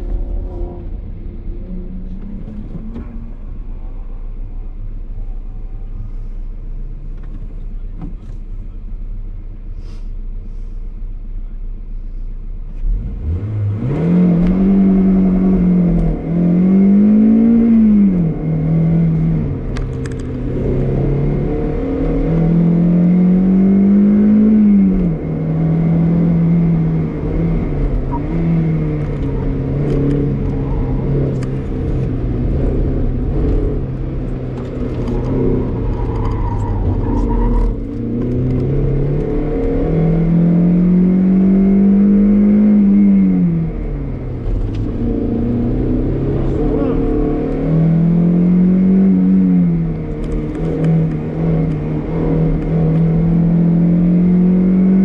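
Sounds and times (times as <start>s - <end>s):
car engine idling and revving: 0.0s - 55.0s
road and tyre noise: 0.0s - 55.0s.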